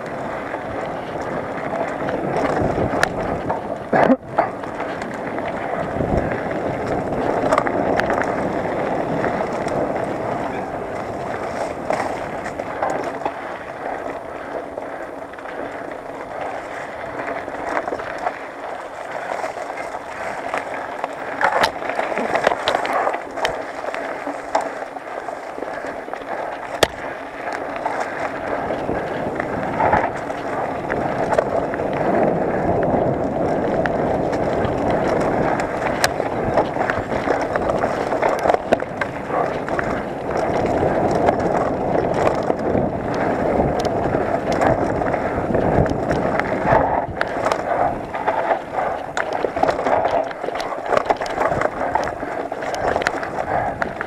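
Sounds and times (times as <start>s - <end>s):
bike knocking and rattling: 0.0s - 54.0s
bike tyres on dirt and stones: 0.0s - 54.0s.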